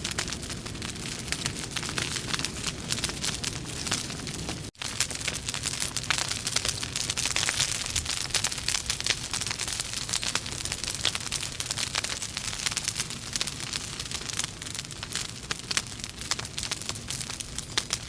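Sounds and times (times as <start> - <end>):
fire hissing: 0.0 - 18.0
logs crackling and popping: 0.0 - 18.0.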